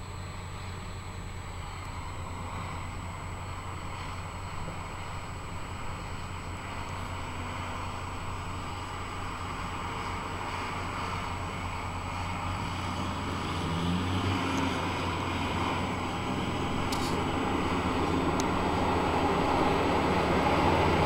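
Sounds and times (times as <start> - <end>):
heavy farm machinery running: 0.0 - 21.0.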